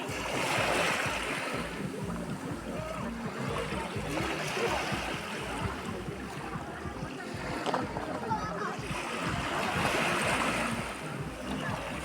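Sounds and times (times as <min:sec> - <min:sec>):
sea water lapping: 0:00.0 - 0:12.0.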